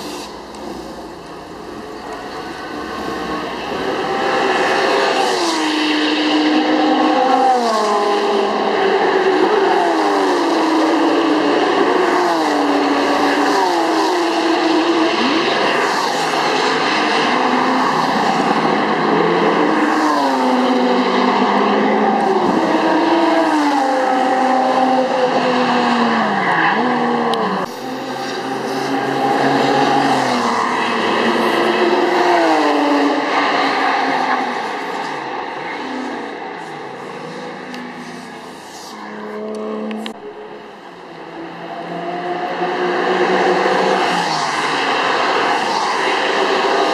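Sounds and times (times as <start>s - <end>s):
sports car engine racing: 0.0s - 46.9s.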